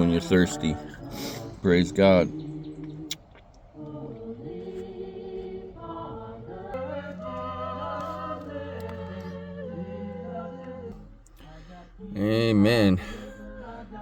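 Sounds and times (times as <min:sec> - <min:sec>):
unaccompanied choir singing: 0:00.0 - 0:14.0.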